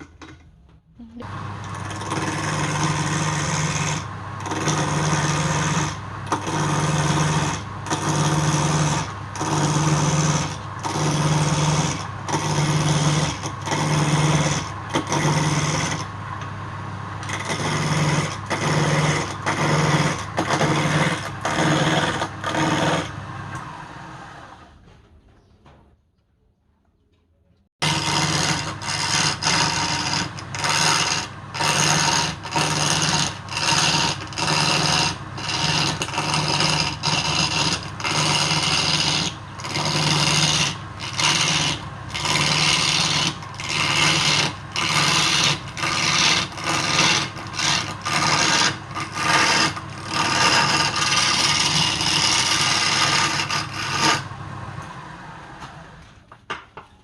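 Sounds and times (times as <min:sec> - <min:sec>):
tool scraping spinning wood: 0:01.1 - 0:24.7, 0:27.8 - 0:56.4
wood lathe running: 0:01.2 - 0:24.7, 0:27.8 - 0:56.1.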